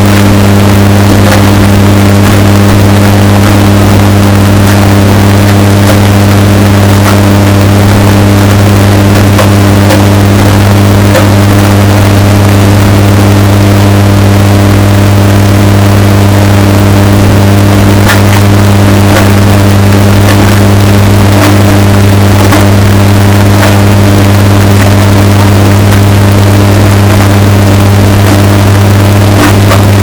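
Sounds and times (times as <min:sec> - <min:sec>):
distorted washing machine hum: 0:00.0 - 0:30.0.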